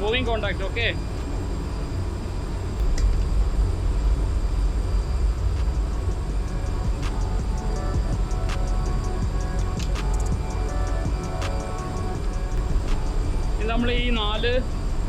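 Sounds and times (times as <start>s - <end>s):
low rumble of ship machinery: 0.0s - 15.0s.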